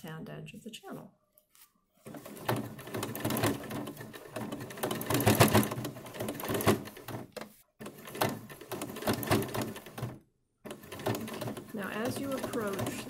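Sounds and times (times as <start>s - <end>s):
sewing machine stitching: 2.0s - 13.0s.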